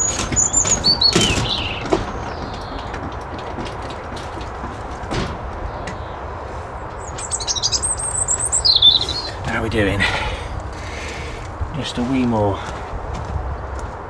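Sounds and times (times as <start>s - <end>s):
songbird chirping: 0.0s - 12.8s
low outdoor background noise: 0.0s - 14.0s.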